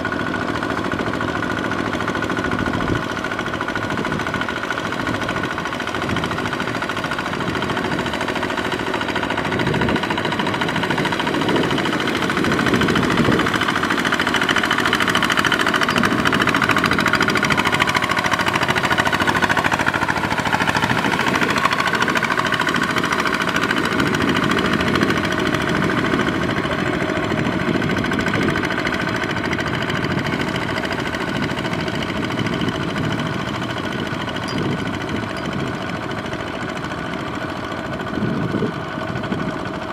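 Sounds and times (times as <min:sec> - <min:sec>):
diesel engine running under load: 0:00.0 - 0:39.9
wheels churning through water: 0:00.0 - 0:39.9.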